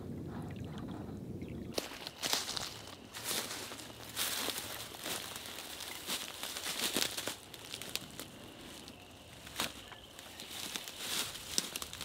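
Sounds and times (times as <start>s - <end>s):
footsteps crunching dry reeds: 1.7s - 12.0s.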